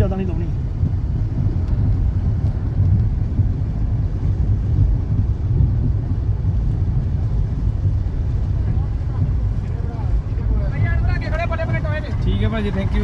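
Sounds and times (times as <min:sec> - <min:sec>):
vehicle engine rumble: 0:00.0 - 0:13.0
wind on microphone: 0:00.0 - 0:13.0.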